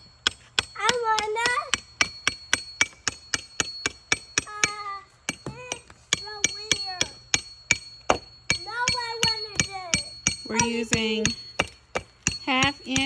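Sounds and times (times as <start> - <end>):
hammer striking steel stake: 0.0 - 13.0.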